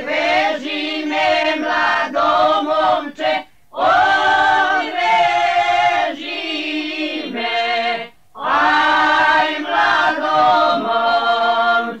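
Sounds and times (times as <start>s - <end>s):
choir singing unaccompanied: 0.0s - 12.0s.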